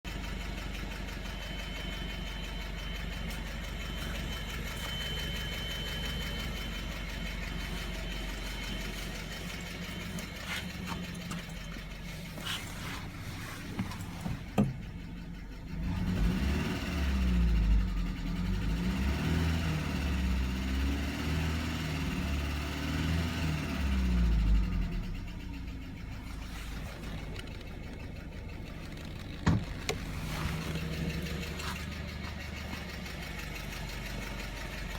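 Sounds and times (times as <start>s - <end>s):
car engine idling and revving: 0.0s - 34.9s
engine rattle: 0.1s - 34.9s.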